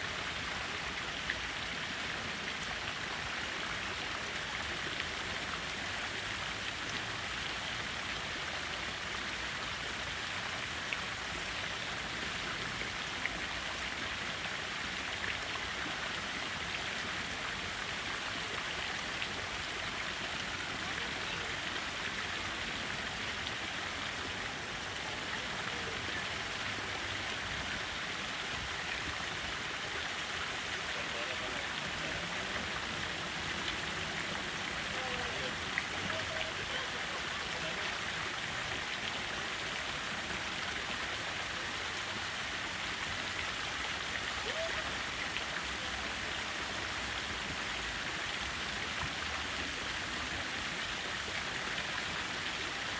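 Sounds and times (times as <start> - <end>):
fountain water splashing: 0.0 - 52.9.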